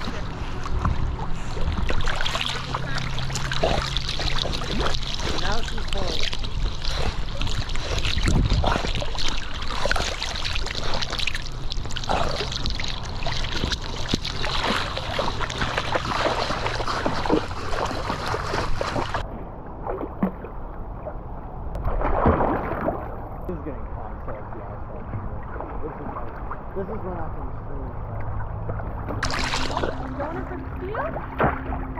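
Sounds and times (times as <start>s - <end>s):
water splashing and sloshing: 0.0s - 31.9s.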